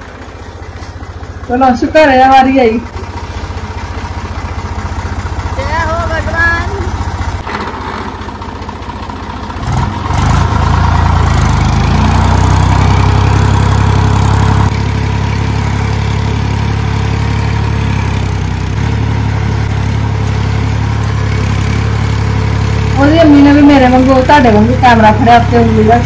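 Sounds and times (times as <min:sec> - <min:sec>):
tractor engine idling and revving: 0:00.0 - 0:26.0.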